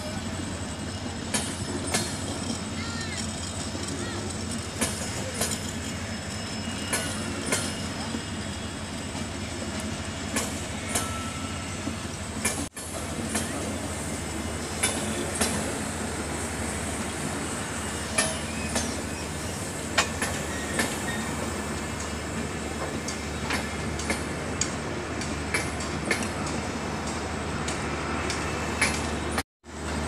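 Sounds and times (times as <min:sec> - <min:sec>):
wheels clicking over rail joints: 0:00.0 - 0:08.3, 0:09.0 - 0:16.1, 0:16.8 - 0:30.0
train wheels rumbling on rails: 0:00.0 - 0:30.0.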